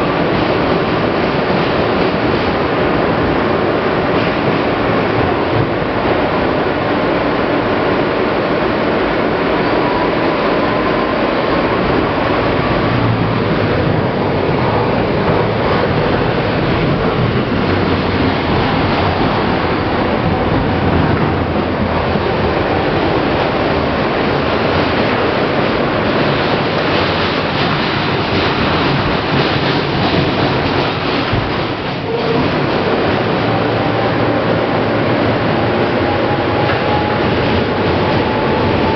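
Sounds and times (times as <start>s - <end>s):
subway train running noise: 0.0s - 38.9s.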